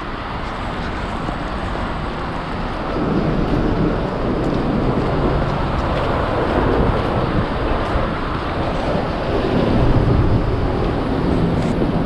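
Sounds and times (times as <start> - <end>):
traffic passing: 0.0 - 12.0
wind rumbling on microphone: 0.0 - 12.0.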